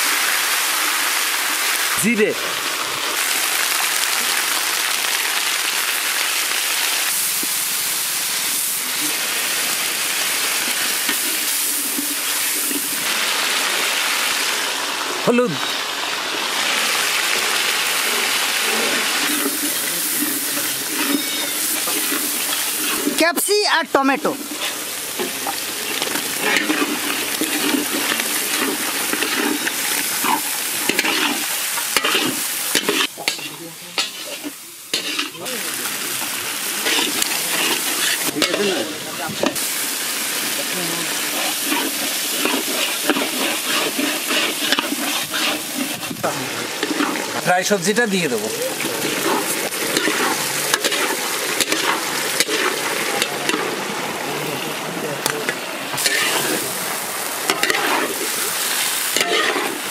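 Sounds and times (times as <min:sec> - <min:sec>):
spices sizzling in hot oil: 0:00.0 - 0:59.9.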